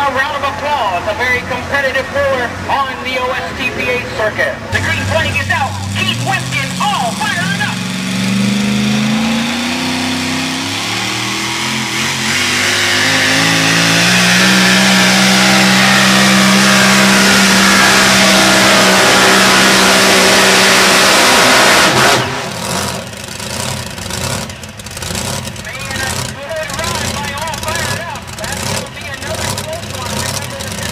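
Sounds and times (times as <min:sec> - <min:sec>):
truck engine at full throttle: 0:00.0 - 0:30.9.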